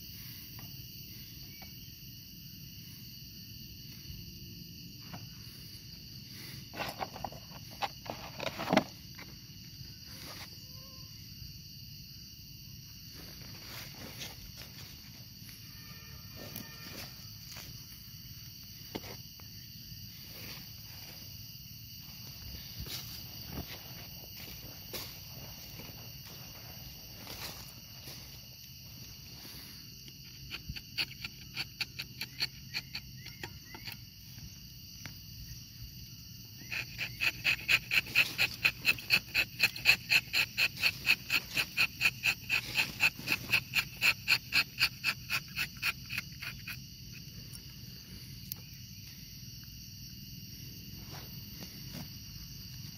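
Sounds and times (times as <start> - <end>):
high-pitched insect chorus: 0.0 - 52.9
loud pulsing insect call: 0.0 - 52.9.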